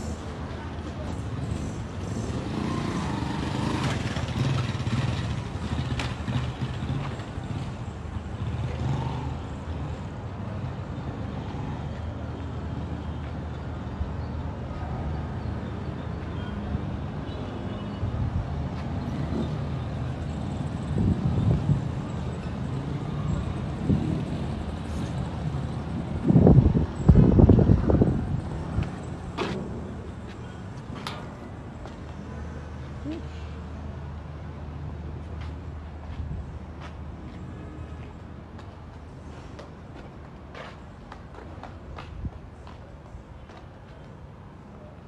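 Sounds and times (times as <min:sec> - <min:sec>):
street noise: 0:00.0 - 0:45.0.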